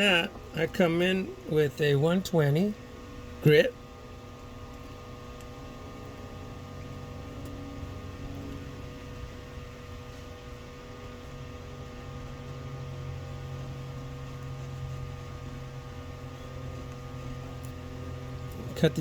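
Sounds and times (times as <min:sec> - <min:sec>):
electrical hum: 0:00.0 - 0:19.0
low background rumble: 0:00.0 - 0:19.0.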